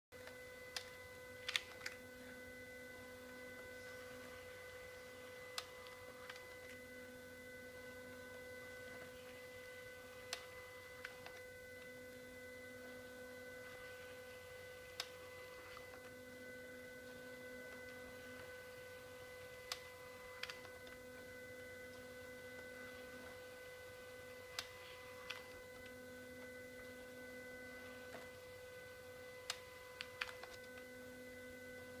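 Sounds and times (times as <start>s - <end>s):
faint steady scanner whine: 0.1s - 32.0s
scanner motor tone: 0.2s - 32.0s.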